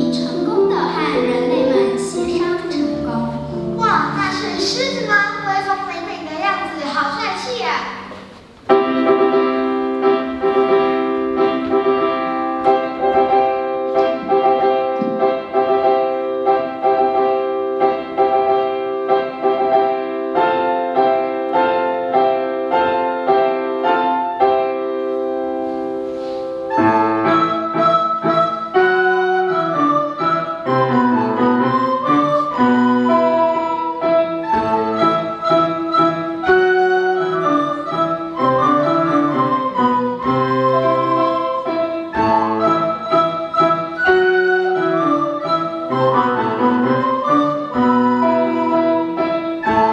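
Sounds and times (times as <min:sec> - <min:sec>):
recorder ensemble playing: 0:00.0 - 0:23.1, 0:25.0 - 0:49.9.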